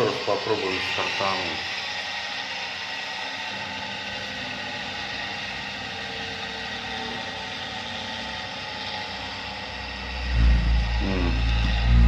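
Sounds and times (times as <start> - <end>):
gas boiler fan humming: 0.0 - 12.0.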